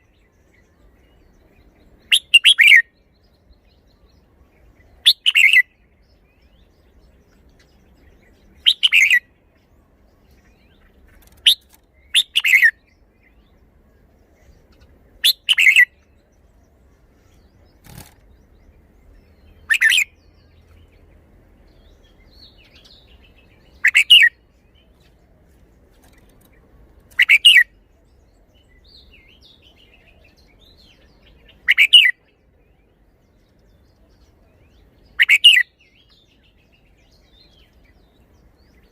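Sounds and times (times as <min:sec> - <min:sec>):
bulbul singing warbled phrases: 0:00.0 - 0:38.9.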